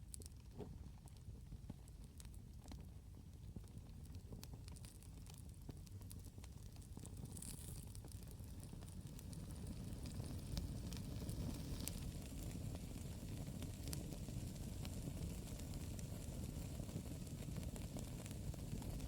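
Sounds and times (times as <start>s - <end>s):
campfire crackling: 3.5s - 19.0s
fire pops and snaps: 3.5s - 19.0s.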